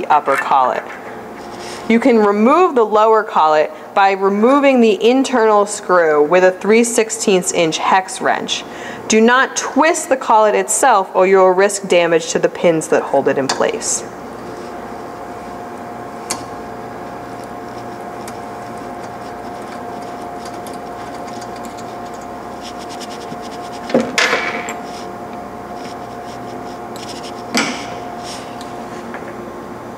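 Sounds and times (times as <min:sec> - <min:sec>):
steady hum: 0:00.0 - 0:29.9.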